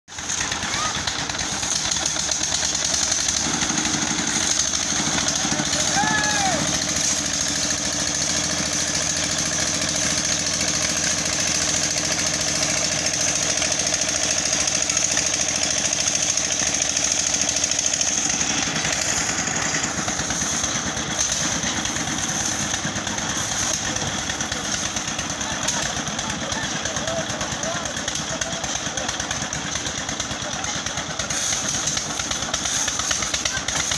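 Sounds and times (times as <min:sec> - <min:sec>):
concrete mixer engine running: 0:00.1 - 0:33.9.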